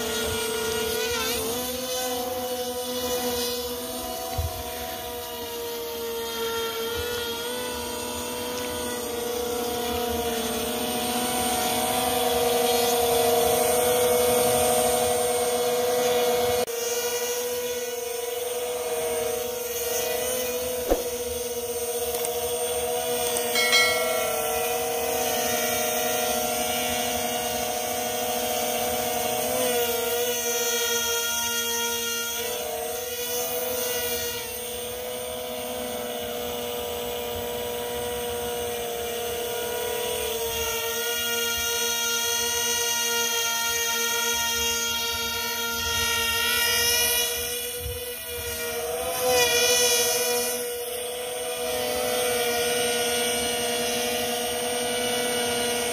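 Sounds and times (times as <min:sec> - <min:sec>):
model plane propeller buzzing: 0:00.0 - 0:55.9.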